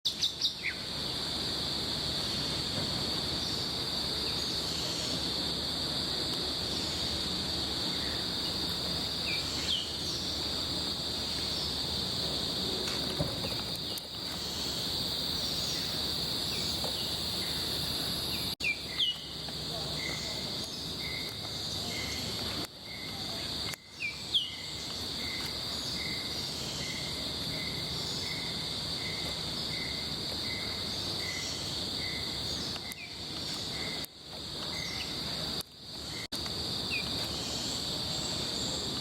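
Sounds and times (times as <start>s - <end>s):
insects droning: 0.1s - 39.0s.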